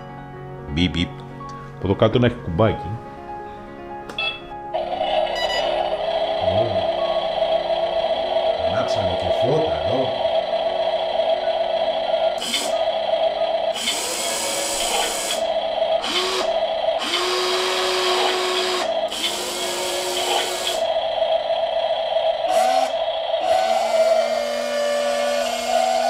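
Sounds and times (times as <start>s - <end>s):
steady hum: 4.2s - 26.0s
electric motors whining: 4.7s - 26.0s.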